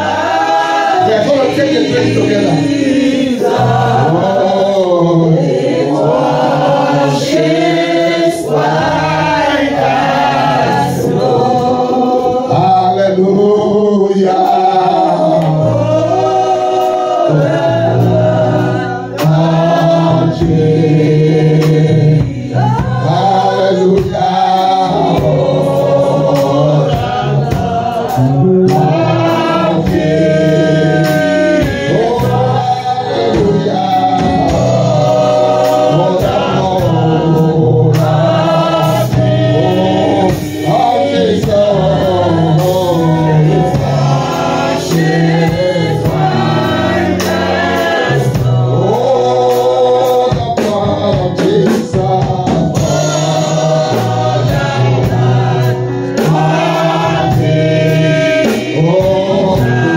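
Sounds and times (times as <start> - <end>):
congregation singing worship song: 0.0 - 59.9
keyboard holding low notes: 0.0 - 59.9.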